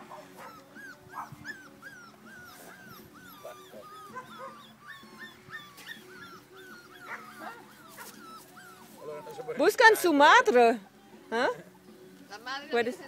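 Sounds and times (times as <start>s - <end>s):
puppies whimpering: 0.0s - 12.0s.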